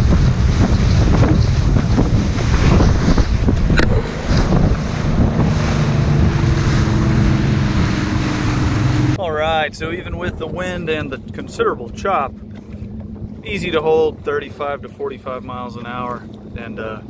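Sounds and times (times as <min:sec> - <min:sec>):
outboard motor drone: 0:00.0 - 0:17.0
wind buffeting microphone: 0:00.0 - 0:17.0.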